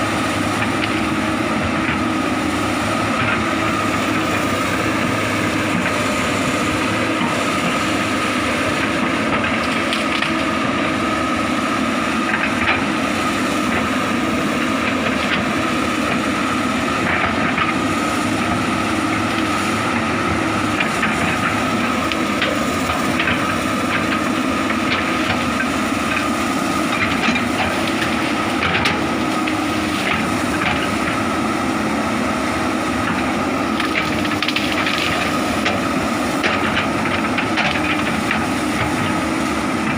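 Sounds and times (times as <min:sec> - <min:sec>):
hydraulic excavator running: 0:00.0 - 0:39.9.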